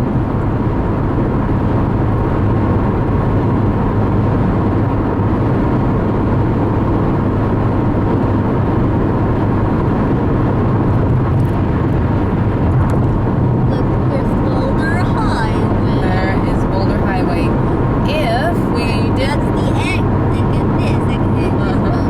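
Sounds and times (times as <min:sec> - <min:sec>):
low engine hum: 0:00.0 - 0:22.0
road noise: 0:00.0 - 0:22.0.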